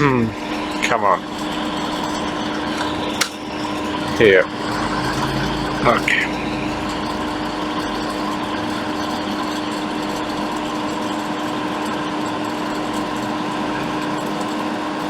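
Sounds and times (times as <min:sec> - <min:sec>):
small electric blower whirring: 0:00.0 - 0:15.0.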